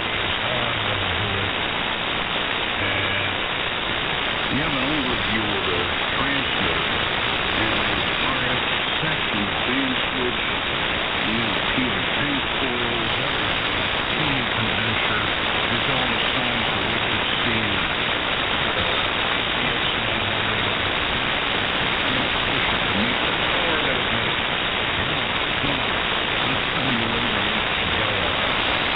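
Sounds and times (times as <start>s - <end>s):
radio static hiss: 0.0s - 28.9s.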